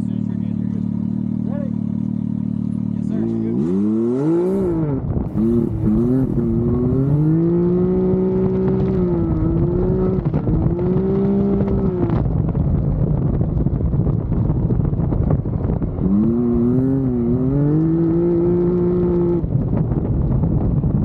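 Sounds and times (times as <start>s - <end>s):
engine running hard: 0.0s - 21.0s.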